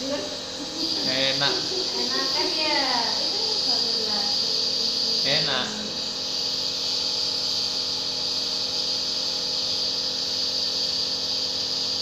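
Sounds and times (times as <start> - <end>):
high-pitched hiss: 0.0 - 12.0
nebulizer motor hum: 0.0 - 12.0.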